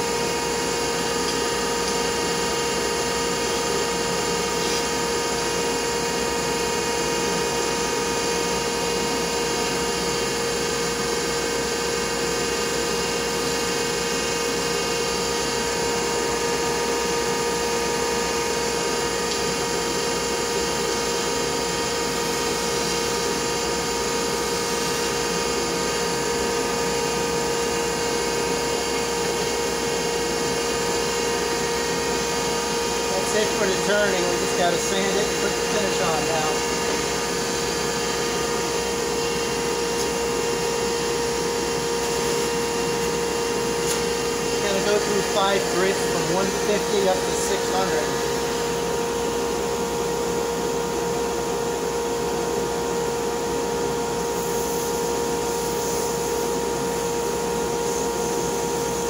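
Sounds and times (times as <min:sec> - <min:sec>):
wood lathe machine hum: 0:00.0 - 0:48.8.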